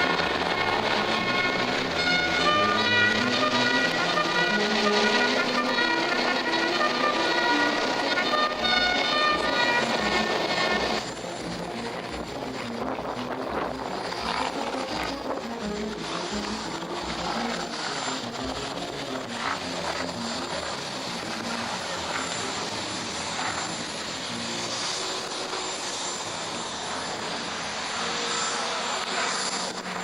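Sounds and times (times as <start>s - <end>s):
aircraft flying overhead: 0.0s - 30.0s.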